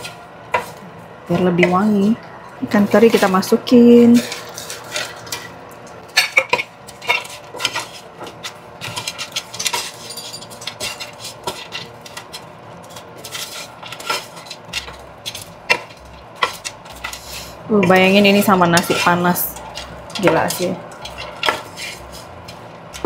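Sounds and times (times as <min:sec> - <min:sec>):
utensil scraping frying pan: 0:01.4 - 0:23.0.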